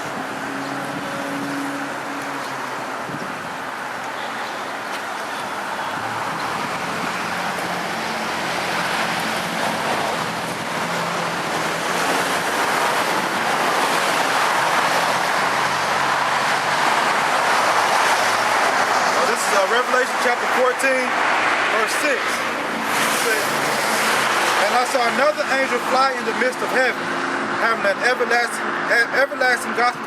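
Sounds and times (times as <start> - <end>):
road noise of moving car: 0.0 - 30.0.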